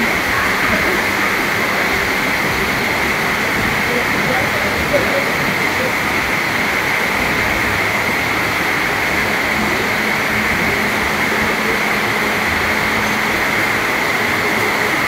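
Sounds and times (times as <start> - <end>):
busy indoor market ambience: 0.0 - 15.0.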